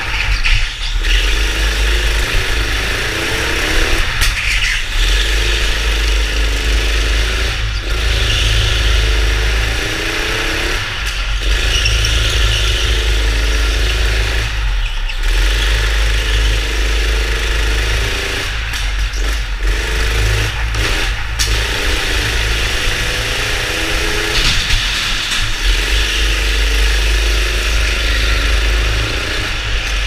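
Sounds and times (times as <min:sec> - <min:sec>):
go-kart engine revving: 0:00.0 - 0:30.0.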